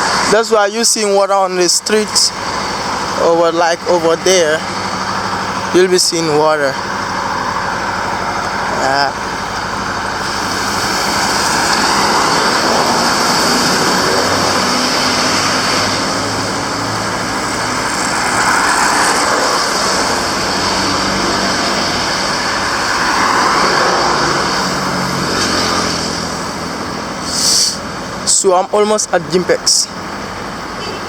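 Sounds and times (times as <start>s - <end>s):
vehicles driving past: 0.0s - 31.0s.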